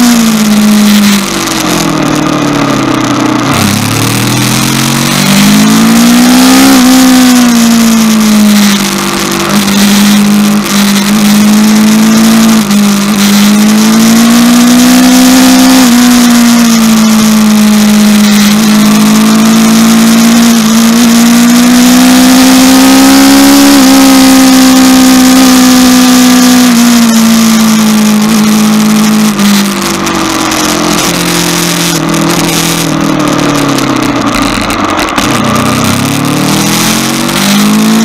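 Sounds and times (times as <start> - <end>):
motorcycle engine cruising: 0.0 - 38.0.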